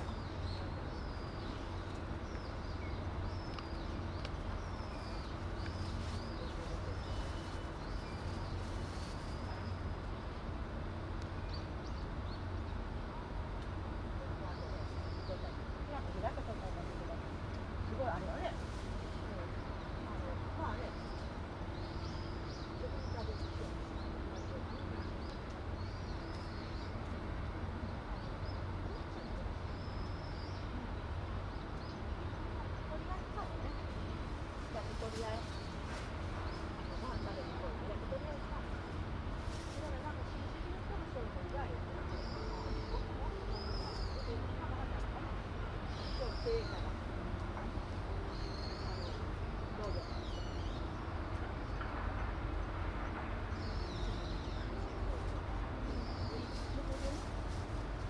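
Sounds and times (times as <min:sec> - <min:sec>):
birds chirping: 0:00.0 - 0:10.4, 0:14.2 - 0:58.0
low outdoor rumble: 0:00.0 - 0:58.0.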